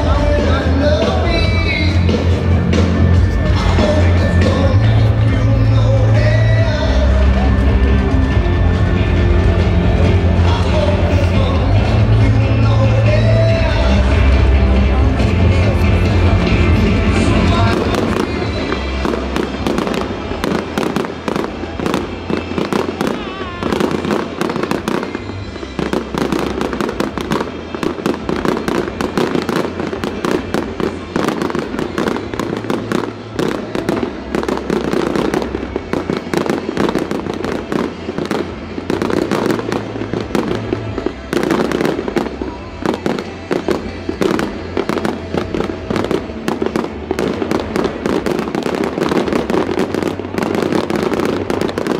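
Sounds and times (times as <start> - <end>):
fireworks cracking and banging: 0.0 - 51.9
music playing: 0.0 - 51.9.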